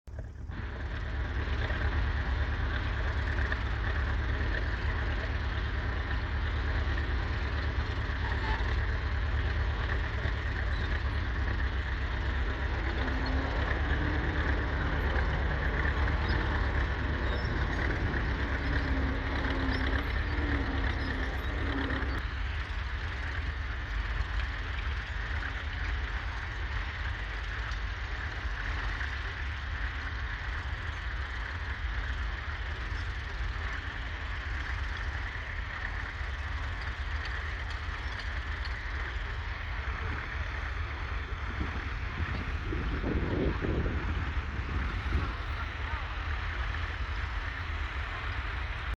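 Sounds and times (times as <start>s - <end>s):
tractor diesel engine rumbling: 0.1s - 48.9s.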